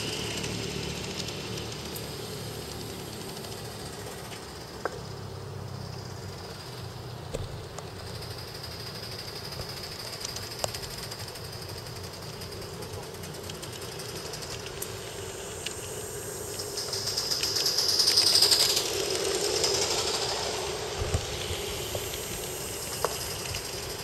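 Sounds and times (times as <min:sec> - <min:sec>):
model steam locomotive hissing: 0:00.0 - 0:24.0.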